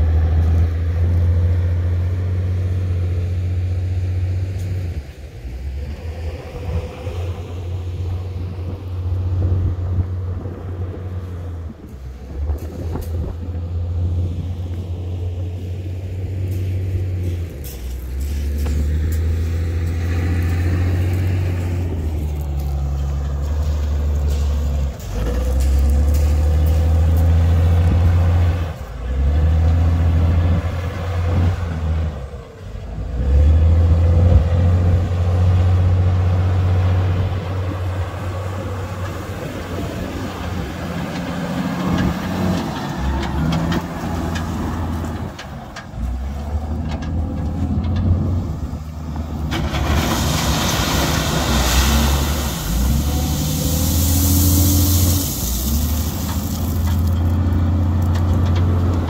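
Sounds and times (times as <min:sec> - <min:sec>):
heavy machinery engine rumble: 0:00.0 - 0:59.0.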